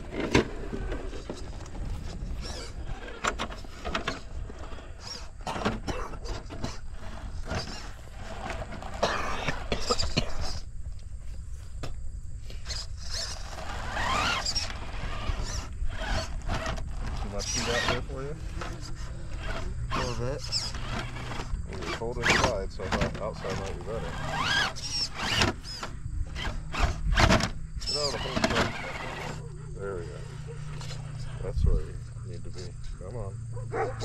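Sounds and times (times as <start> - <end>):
electric motor whining: 0.0 - 10.7, 12.5 - 33.1.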